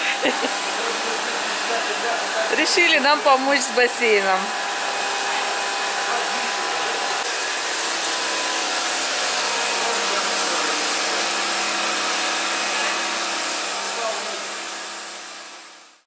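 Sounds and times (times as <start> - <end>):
machine motor whining: 0.0 - 16.0.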